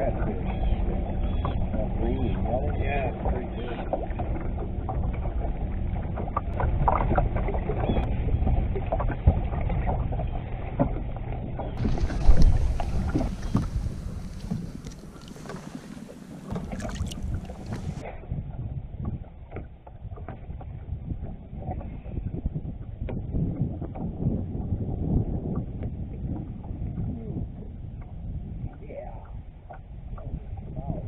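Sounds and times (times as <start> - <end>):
knocks and rattles of fish and tackle: 0.0 - 31.0
water lapping against boat hull: 0.0 - 31.0
wind buffeting microphone: 0.0 - 31.0.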